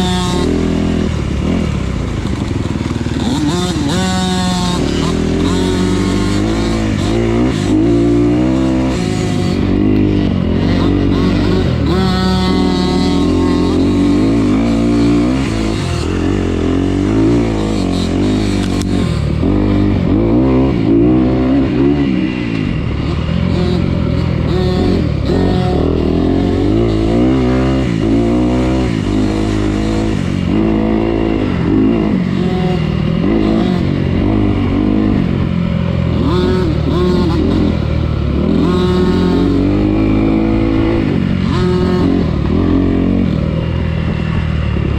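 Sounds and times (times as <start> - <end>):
dirt bike engine running hard: 0.0 - 44.9.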